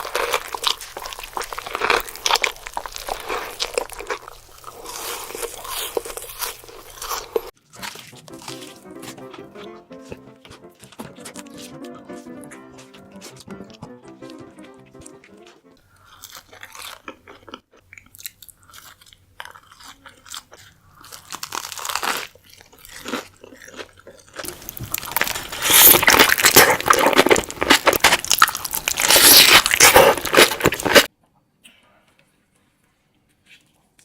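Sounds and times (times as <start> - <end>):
crunchy wet chewing: 0.0 - 31.1.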